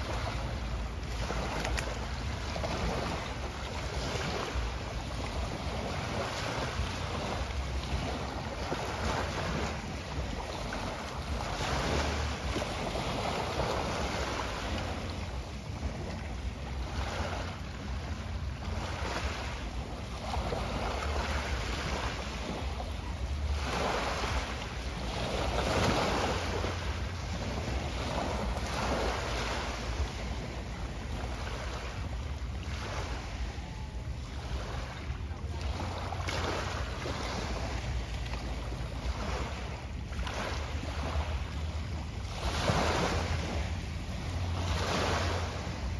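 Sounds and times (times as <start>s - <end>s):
sea waves washing in: 0.0s - 45.9s
wind rumble on microphone: 0.0s - 45.9s.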